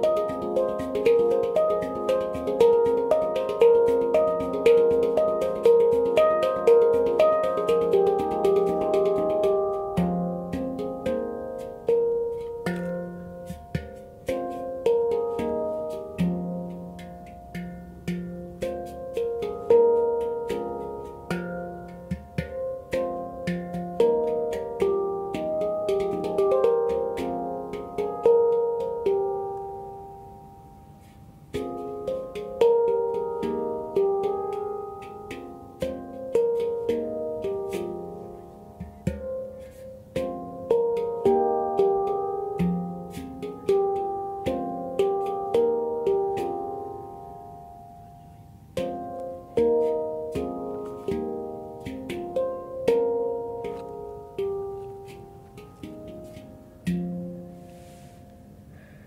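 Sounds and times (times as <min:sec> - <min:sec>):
handpan notes ringing: 0:00.0 - 0:59.0.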